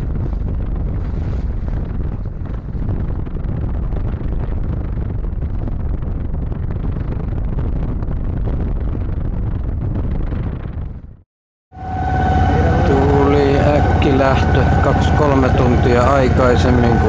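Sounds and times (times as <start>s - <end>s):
wind buffeting microphone: 0.0s - 11.2s, 11.8s - 17.0s.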